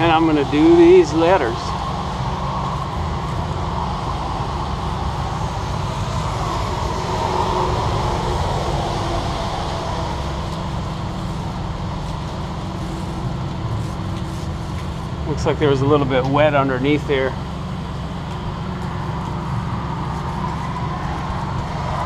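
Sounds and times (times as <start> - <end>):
steady rumbling noise: 0.0 - 22.0.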